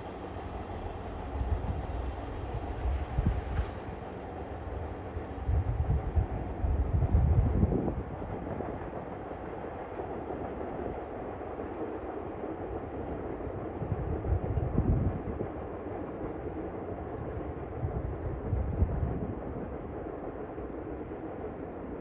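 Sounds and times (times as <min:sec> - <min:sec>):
distant freight train rumbling: 0:00.0 - 0:22.0.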